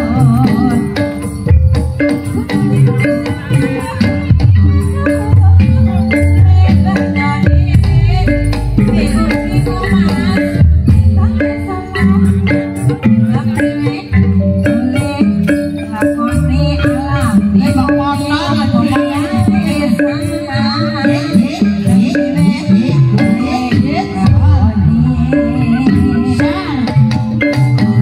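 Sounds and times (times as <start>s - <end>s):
low drum and gong beat: 0.0s - 28.0s
tuned percussion ensemble: 0.0s - 28.0s.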